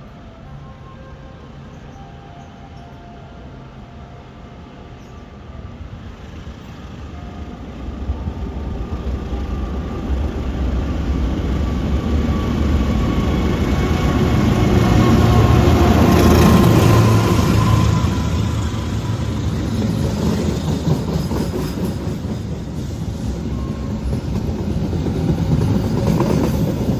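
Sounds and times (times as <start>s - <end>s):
train rumbling on track: 0.0s - 26.9s.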